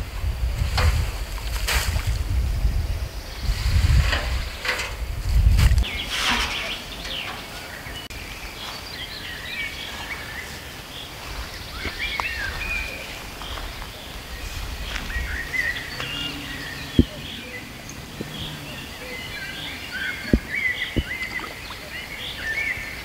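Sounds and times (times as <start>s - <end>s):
low rumble on microphone: 0.0s - 8.0s, 11.2s - 22.0s
songbirds chirping and whistling: 2.4s - 23.0s.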